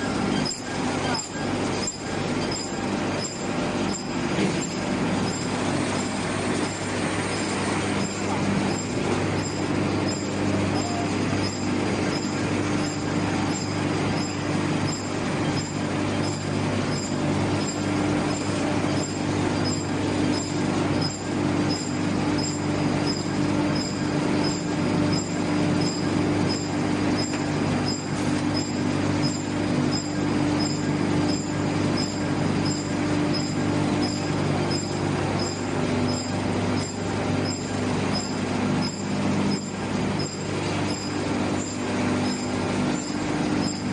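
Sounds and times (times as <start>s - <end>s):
production machinery hum: 0.0s - 43.9s
regular ticking clatter: 0.3s - 43.9s.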